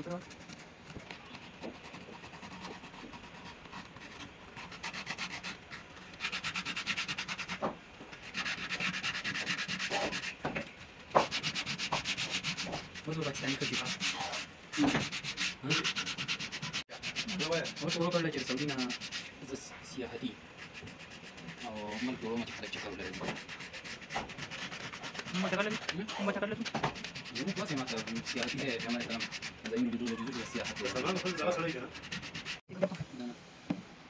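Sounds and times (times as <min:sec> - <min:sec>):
sandpaper rubbing wood: 0:00.0 - 0:32.7.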